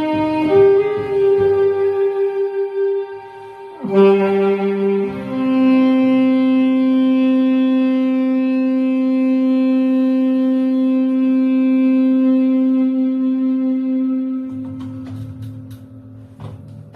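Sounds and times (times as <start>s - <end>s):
saxophone holding long note: 0.0s - 16.9s.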